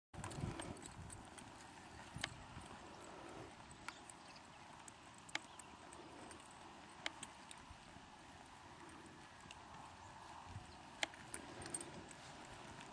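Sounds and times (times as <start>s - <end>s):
hoofbeats on sand: 0.2s - 12.9s.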